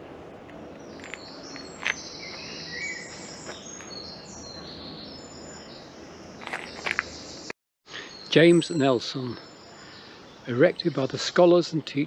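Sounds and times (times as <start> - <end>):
birds chirping and trilling: 0.0 - 12.0
low background noise: 0.0 - 12.0.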